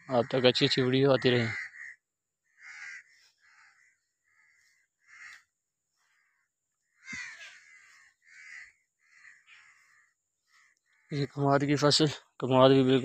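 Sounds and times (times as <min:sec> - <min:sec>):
faint bird calls: 0:00.0 - 0:12.4.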